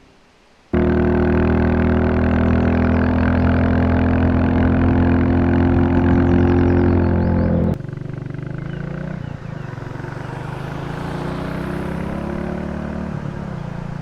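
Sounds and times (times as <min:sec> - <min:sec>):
motorcycle engine running: 0:00.8 - 0:14.0.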